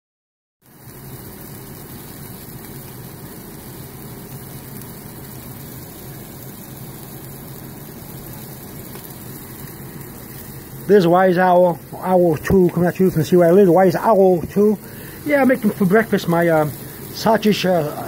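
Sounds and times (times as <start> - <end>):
sausages sizzling in a skillet: 0.6 - 18.0.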